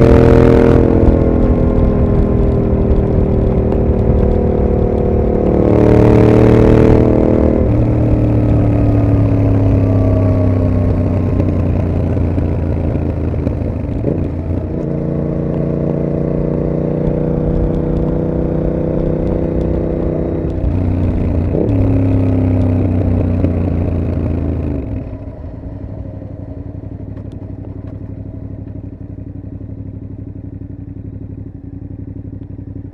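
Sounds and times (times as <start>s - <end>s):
motorcycle engine under load: 0.0s - 32.9s.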